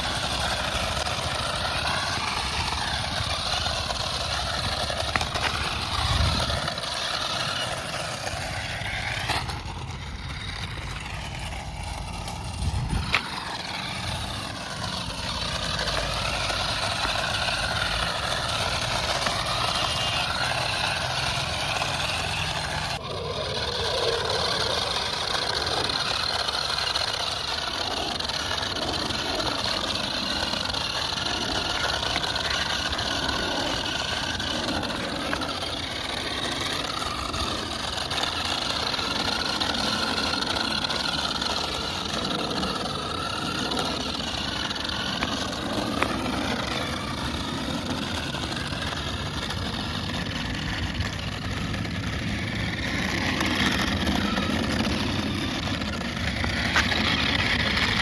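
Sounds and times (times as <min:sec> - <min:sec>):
toy car electric motors whirring: 0:00.0 - 0:58.0.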